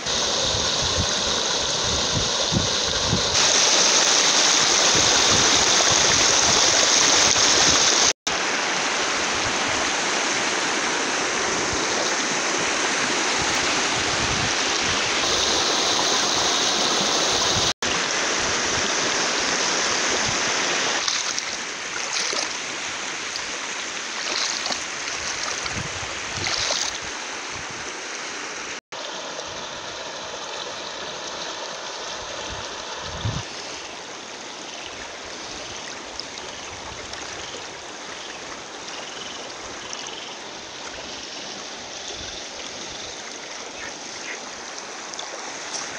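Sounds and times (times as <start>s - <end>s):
stream rushing over stones: 0.0s - 45.9s.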